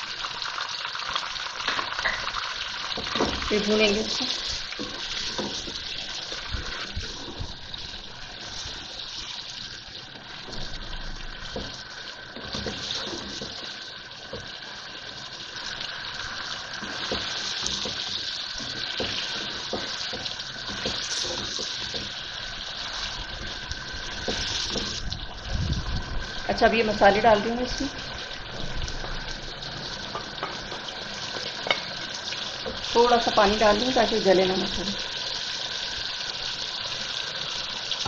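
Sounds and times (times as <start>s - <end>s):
meat sizzling in hot oil: 0.0s - 38.0s
wooden spoon stirring in pot: 2.0s - 10.8s, 11.5s - 29.1s, 30.1s - 35.3s.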